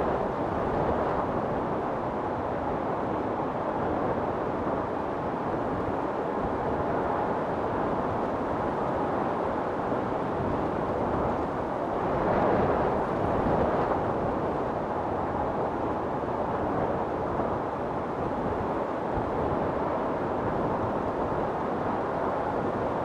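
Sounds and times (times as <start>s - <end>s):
strong wind blowing: 0.0s - 23.0s.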